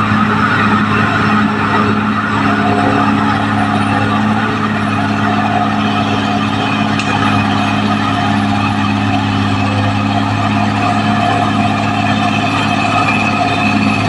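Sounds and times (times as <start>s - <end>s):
bulldozer diesel engine running: 0.0s - 14.0s
steady mechanical noise: 0.0s - 14.0s.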